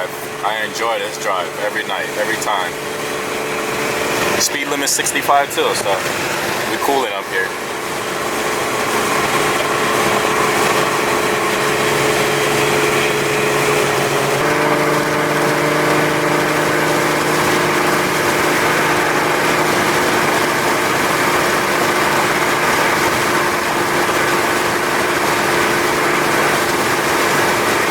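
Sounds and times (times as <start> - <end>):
car engine cruising: 0.0 - 27.9.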